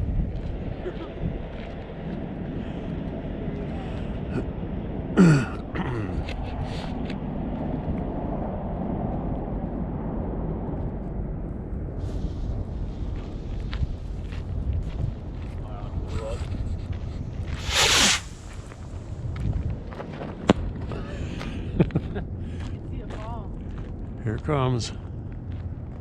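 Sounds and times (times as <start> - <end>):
wind rumbling on microphone: 0.0 - 5.2, 5.9 - 24.2.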